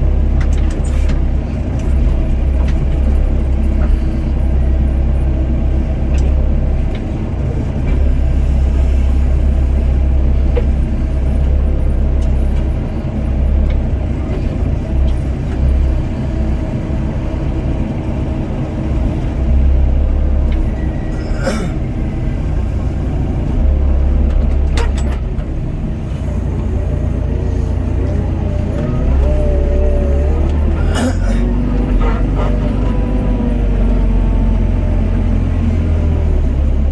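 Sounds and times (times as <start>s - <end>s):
excavator diesel engine rumbling: 0.0s - 36.9s.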